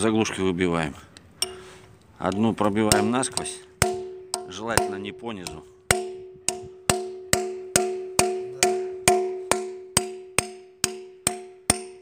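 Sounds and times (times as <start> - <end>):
hammer striking metal punch: 1.4 - 1.6, 2.3 - 12.0
steel crankshaft ringing: 2.3 - 12.0.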